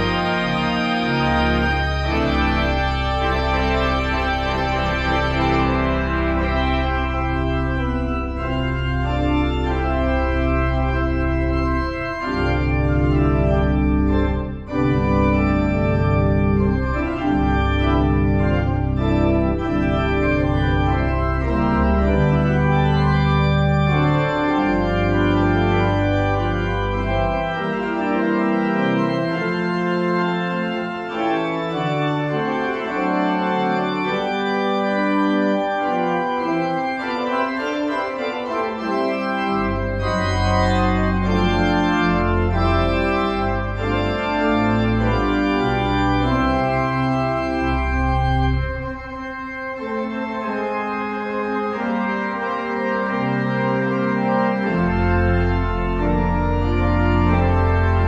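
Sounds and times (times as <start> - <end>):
organ playing sustained chords: 0.0 - 58.0.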